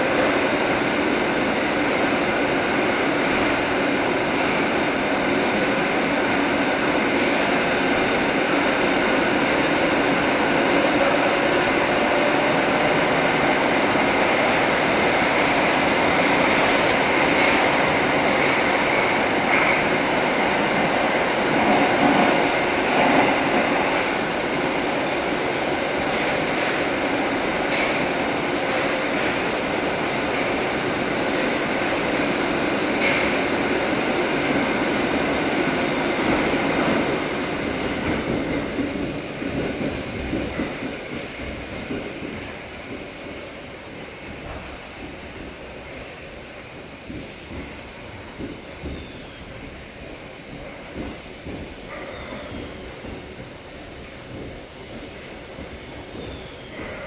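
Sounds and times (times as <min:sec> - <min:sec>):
train rumble and rail noise: 0:00.0 - 0:57.0.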